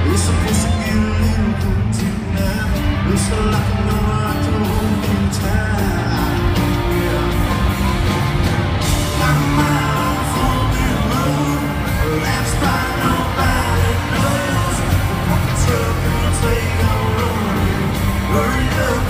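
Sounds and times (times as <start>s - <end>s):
man singing: 0.0s - 7.8s, 8.8s - 19.0s
live country rock band: 0.0s - 19.0s.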